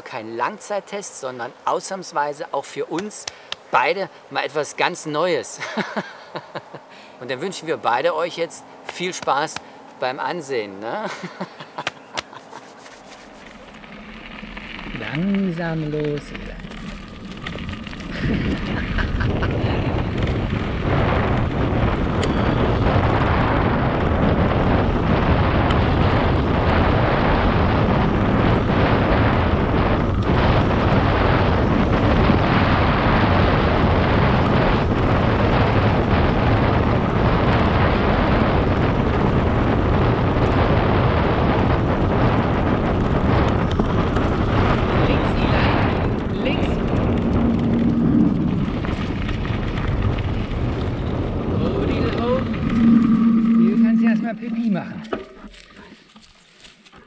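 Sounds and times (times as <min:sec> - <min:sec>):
wind rushing over microphone: 0:00.0 - 0:56.3
bike tyre noise: 0:03.0 - 0:57.0.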